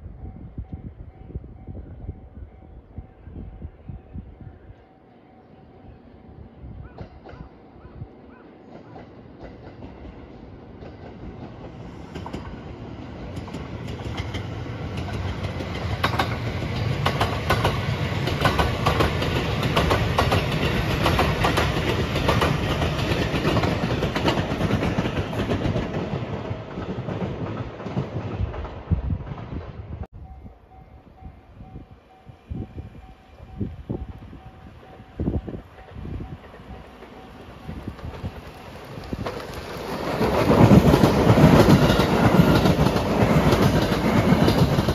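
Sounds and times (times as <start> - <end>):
train passing: 0.0 - 44.9.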